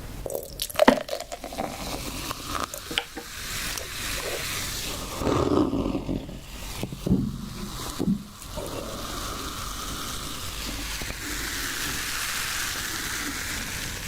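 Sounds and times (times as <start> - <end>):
beer pouring and fizzing: 0.2 - 14.0.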